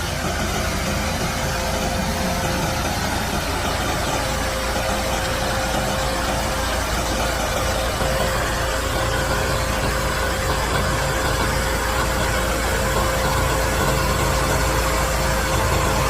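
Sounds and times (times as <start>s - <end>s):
thin steady whine: 0.0s - 16.0s
tractor diesel engine running: 0.0s - 16.0s.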